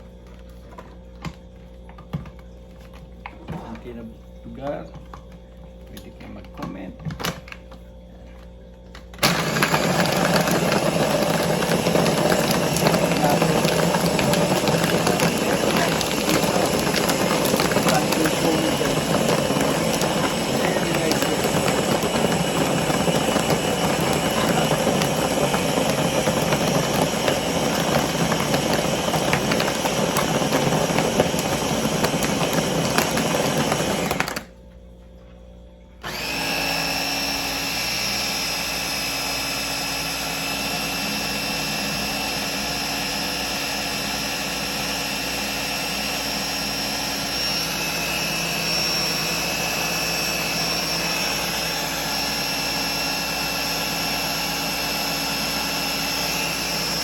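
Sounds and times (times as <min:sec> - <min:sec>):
electric blender running: 0:08.9 - 0:34.6, 0:36.0 - 0:57.0.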